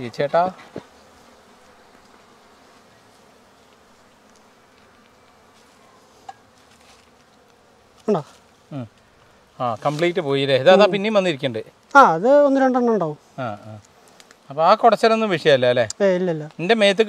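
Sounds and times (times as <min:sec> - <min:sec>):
honey bees buzzing: 0:00.0 - 0:17.0.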